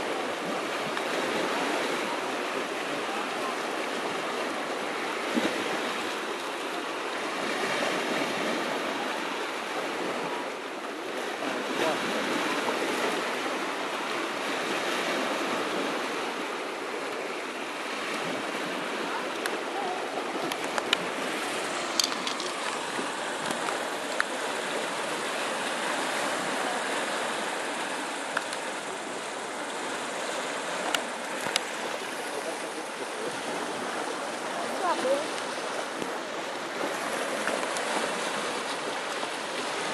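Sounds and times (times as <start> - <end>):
small waves washing on shore: 0.0 - 39.9.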